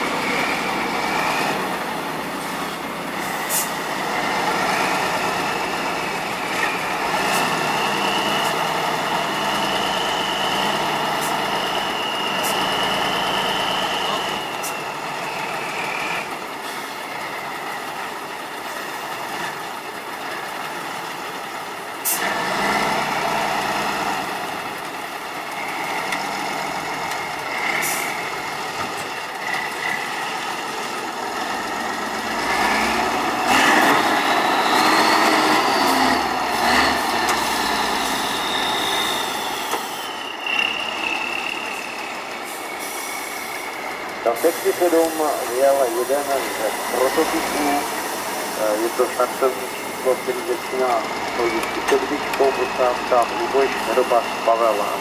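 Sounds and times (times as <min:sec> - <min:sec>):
truck engine under load: 0:00.0 - 0:55.0.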